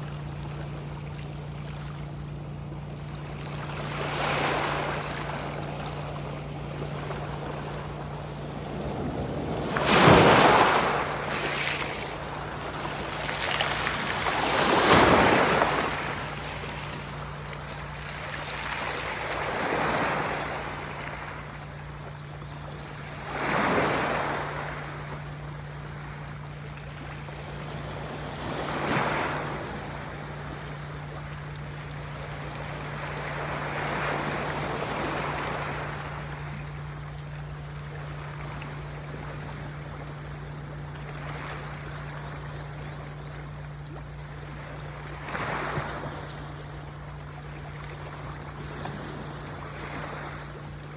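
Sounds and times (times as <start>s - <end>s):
ocean waves breaking: 0.0s - 50.9s
steady low hum: 0.0s - 50.9s.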